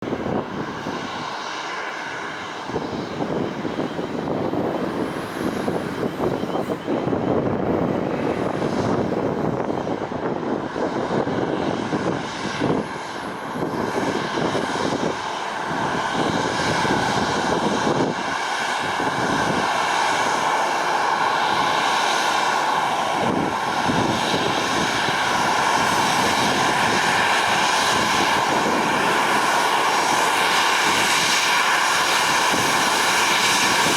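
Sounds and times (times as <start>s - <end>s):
jet engines whining: 0.0s - 33.9s.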